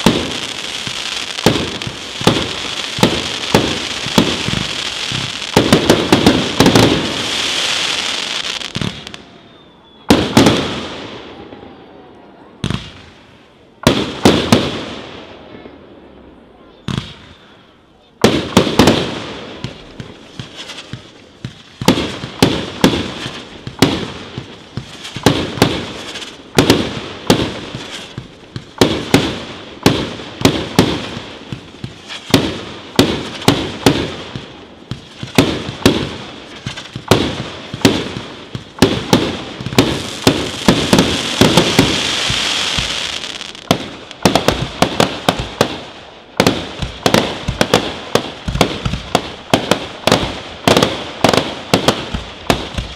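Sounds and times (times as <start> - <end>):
fireworks bursting: 0.0 - 15.5, 18.2 - 52.9.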